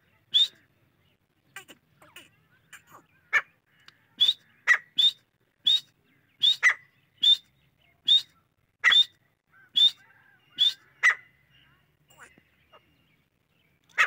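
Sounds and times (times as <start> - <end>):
francolin calling: 1.6 - 12.9.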